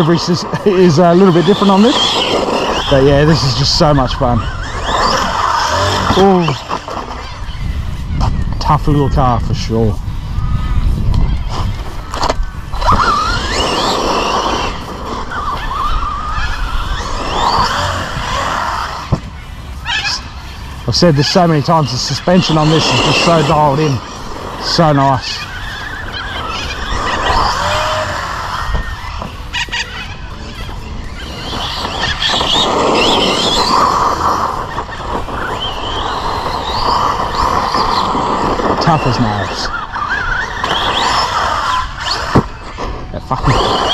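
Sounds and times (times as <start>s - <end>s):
toy truck electric motor whining: 0.0s - 7.8s, 10.4s - 43.9s
tyre and drivetrain noise: 0.0s - 43.9s.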